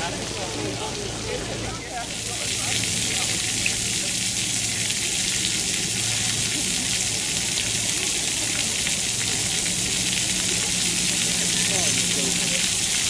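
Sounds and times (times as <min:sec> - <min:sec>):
water jets pattering on paving: 0:00.0 - 0:13.0.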